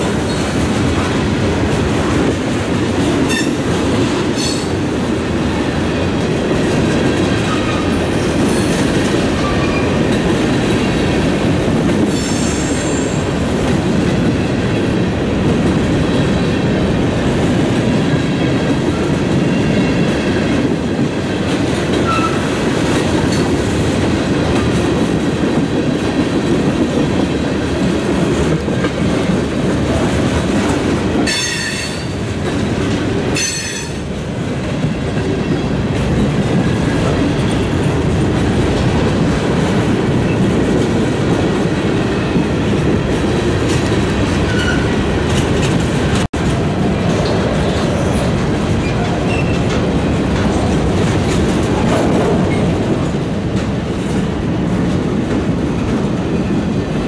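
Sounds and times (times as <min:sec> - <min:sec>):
train wheels clattering over rails: 0:00.0 - 0:57.0.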